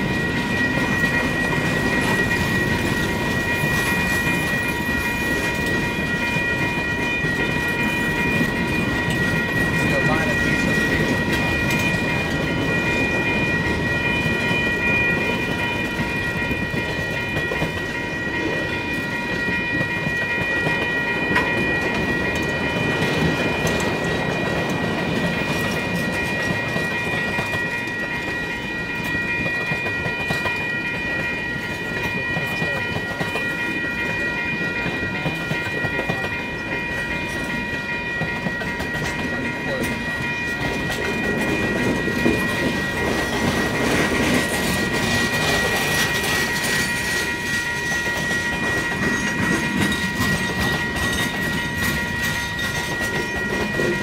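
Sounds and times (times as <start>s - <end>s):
crossing warning bell ringing: 0.0s - 54.0s.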